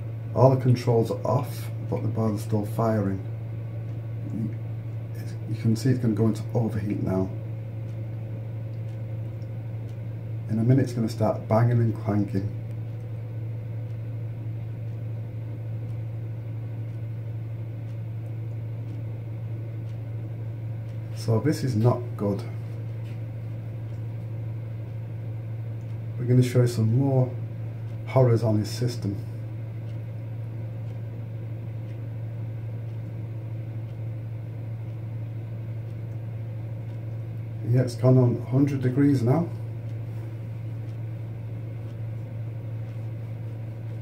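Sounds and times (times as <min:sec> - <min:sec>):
gas boiler humming: 0:00.0 - 0:44.0.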